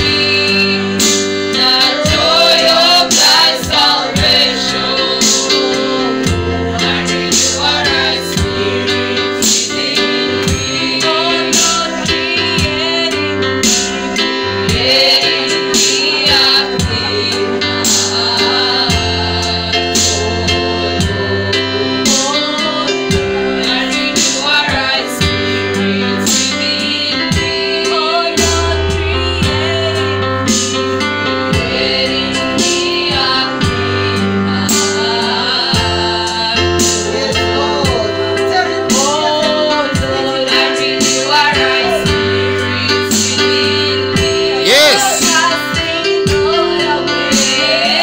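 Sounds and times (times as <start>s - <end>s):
band with guitar and bass: 0.0s - 48.0s
choir singing gospel song: 0.0s - 48.0s.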